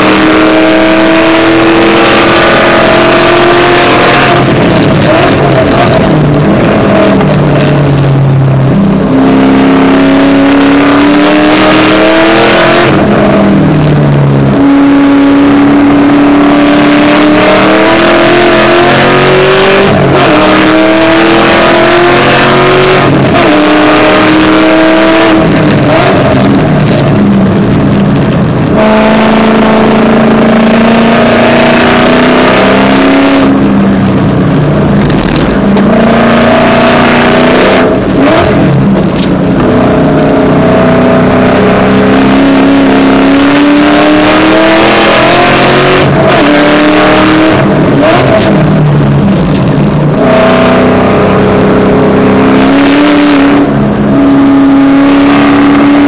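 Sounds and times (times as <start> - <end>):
car engine revving through gears: 0.0 - 56.0.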